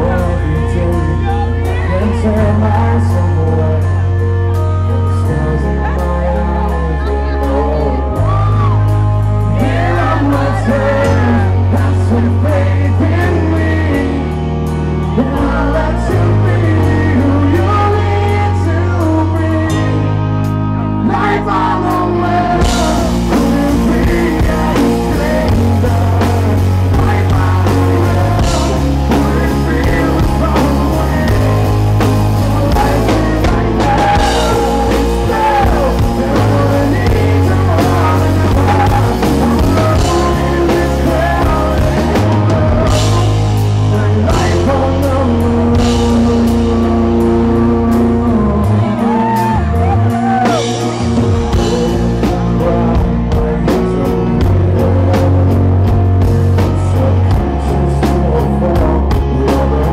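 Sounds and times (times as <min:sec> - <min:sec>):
live rock band playing: 0:00.0 - 0:59.9
man singing lead: 0:00.0 - 0:59.9.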